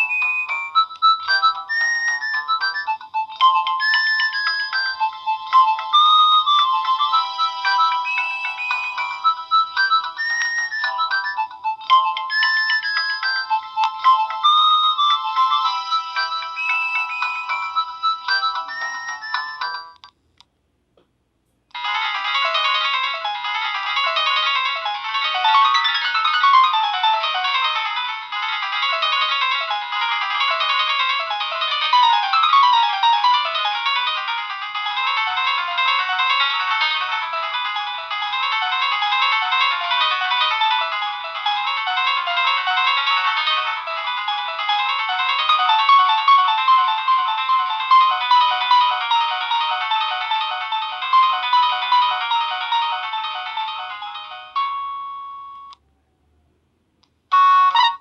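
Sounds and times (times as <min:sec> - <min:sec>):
ringtone melody: 0:00.0 - 0:20.1, 0:21.7 - 0:55.8, 0:57.2 - 0:58.0.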